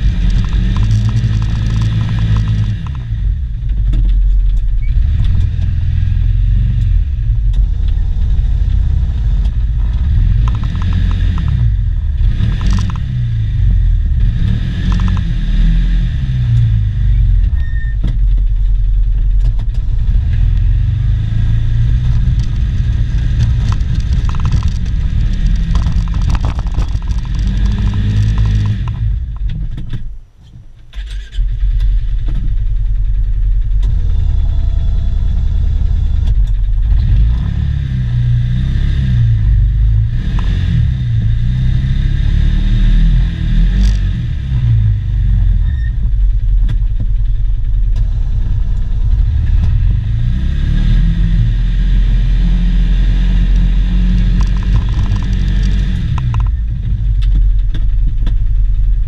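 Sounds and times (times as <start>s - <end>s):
engine running under load: 0.0s - 30.1s, 30.9s - 59.0s.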